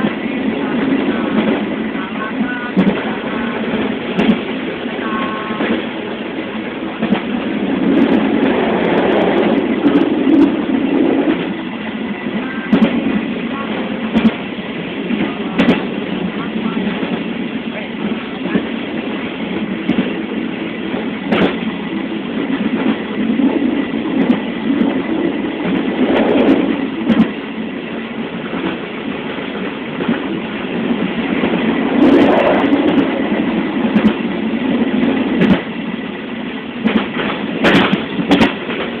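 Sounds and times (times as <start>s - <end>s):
rail car rumbling and rattling: 0.0s - 39.0s
sharp clack of rail car: 0.8s - 11.5s, 12.2s - 21.8s, 22.4s - 35.8s, 36.6s - 39.0s.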